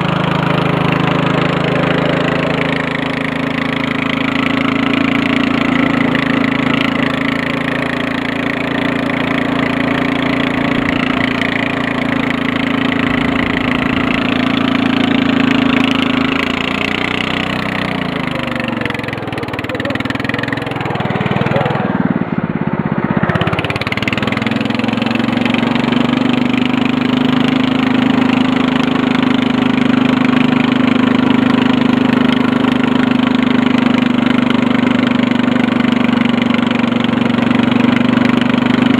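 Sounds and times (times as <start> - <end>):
riding mower engine running: 0.0 - 38.9.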